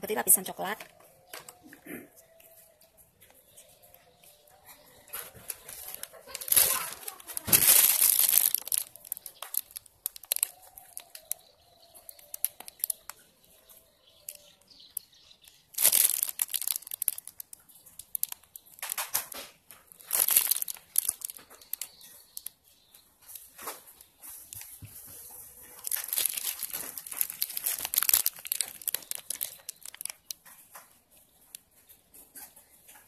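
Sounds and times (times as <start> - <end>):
plastic piping bag crinkling: 4.3 - 31.9.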